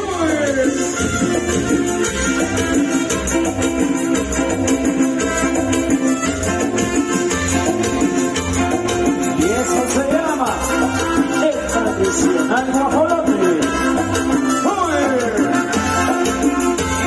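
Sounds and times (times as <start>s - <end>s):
bass beat: 0.0s - 17.0s
live latin dance band: 0.0s - 17.0s
rattling percussion: 0.0s - 17.0s
sliding lead melody: 0.0s - 17.0s.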